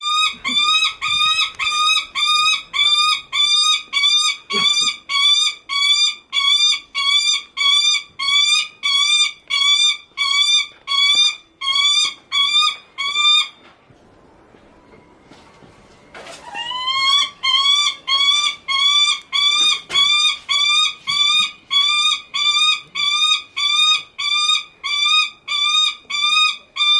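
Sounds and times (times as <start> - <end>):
falcon calling shrilly: 0.0 - 13.5, 16.4 - 26.9.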